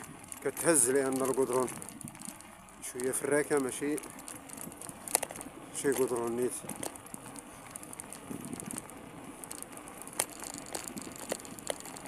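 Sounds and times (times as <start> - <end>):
bicycle tyres on rough asphalt: 0.0 - 12.0
bike rattling: 0.0 - 12.0.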